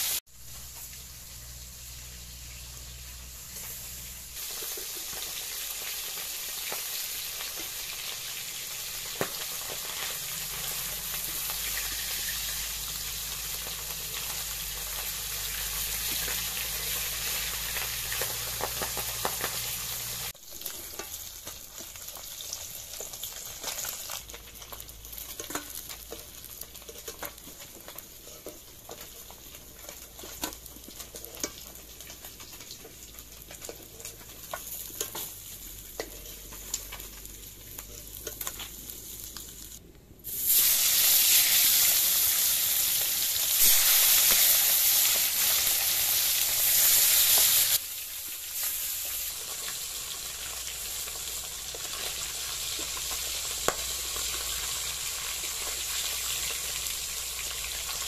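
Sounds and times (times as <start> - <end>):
fish sizzling in oil: 0.0 - 58.0.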